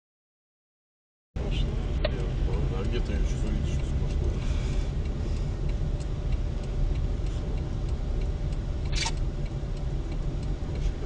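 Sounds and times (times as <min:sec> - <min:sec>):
car driving rumble: 0:01.4 - 0:11.0
light regular ticking: 0:01.4 - 0:11.0.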